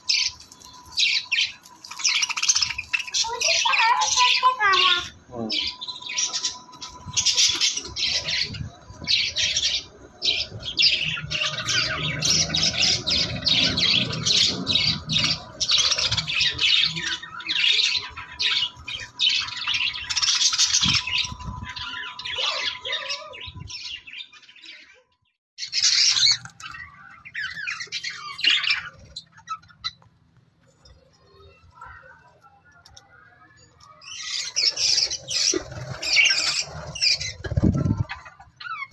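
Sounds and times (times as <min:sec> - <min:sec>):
budgerigars chattering and squawking: 0:00.1 - 0:24.8, 0:25.6 - 0:30.0, 0:33.9 - 0:38.9.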